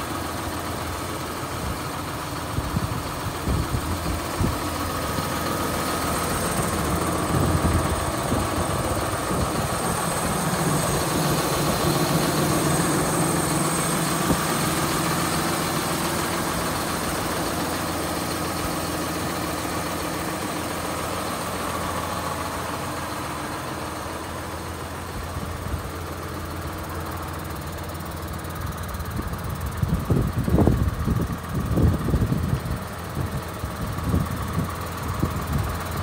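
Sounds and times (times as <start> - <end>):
diesel tractor engine idling: 0.0 - 36.0.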